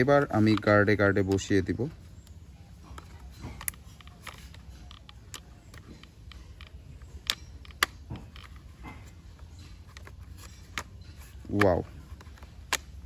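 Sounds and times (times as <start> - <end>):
low steady hum: 0.0 - 13.0
plastic toy parts clicking: 2.2 - 13.0.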